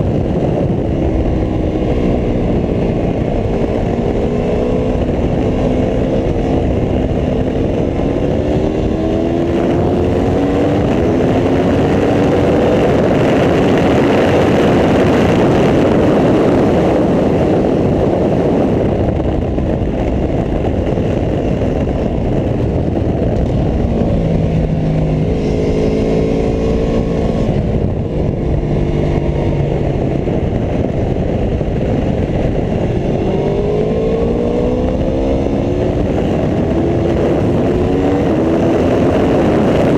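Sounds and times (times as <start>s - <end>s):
motorcycle engine revving: 0.0s - 39.9s
rush of wind noise: 0.0s - 39.9s.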